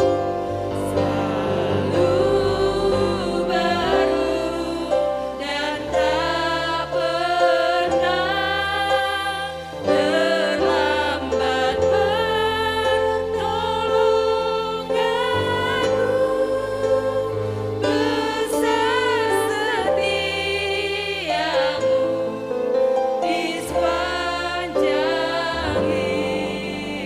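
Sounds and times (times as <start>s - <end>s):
keyboard and bass accompaniment: 0.0s - 27.0s
person singing: 0.0s - 27.0s.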